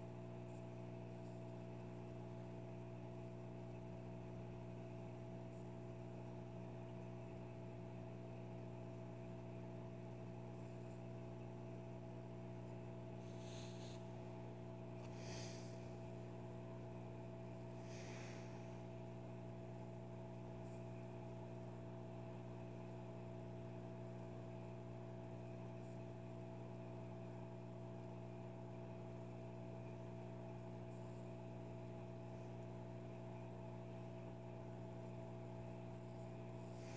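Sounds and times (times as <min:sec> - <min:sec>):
low electrical hum: 0:00.0 - 0:36.9.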